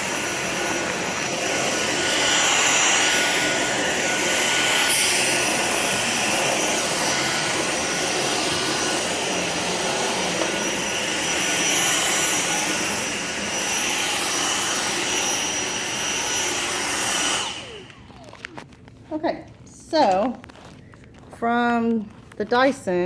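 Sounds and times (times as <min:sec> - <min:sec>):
vacuum cleaner whining on carpet: 0:00.0 - 0:18.8.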